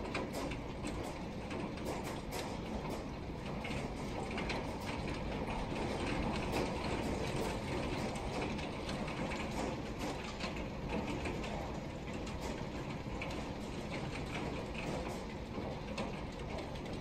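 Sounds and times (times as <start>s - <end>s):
hail clattering: 0.1s - 17.0s.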